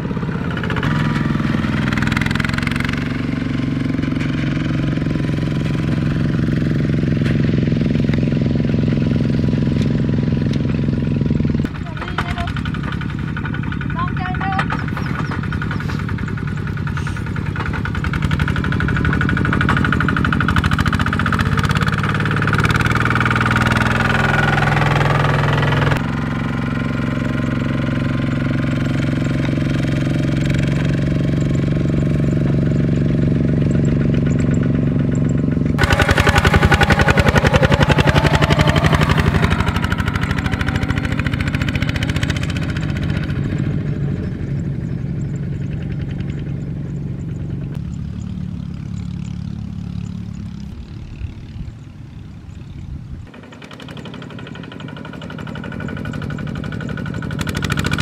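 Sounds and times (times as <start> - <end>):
diesel tractor engine chugging: 0.0 - 58.0.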